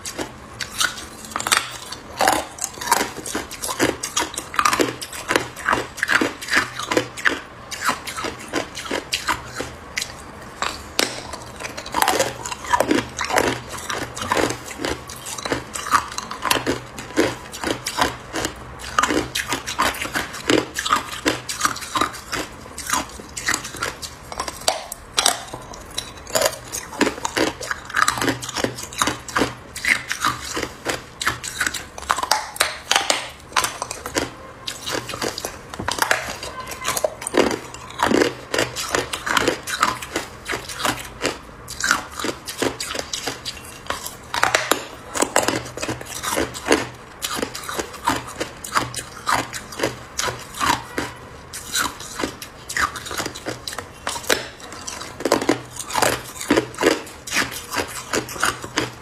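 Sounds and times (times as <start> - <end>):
ice crunching while chewed: 0.0 - 59.0.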